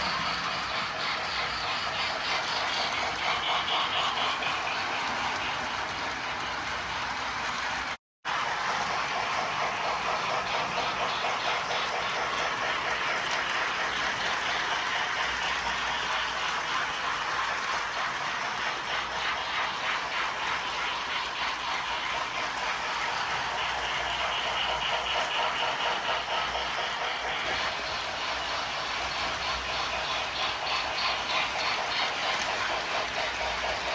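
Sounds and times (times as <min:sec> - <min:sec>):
toy train whirring on track: 0:00.0 - 0:33.9
wheels clattering on rails: 0:00.0 - 0:33.9.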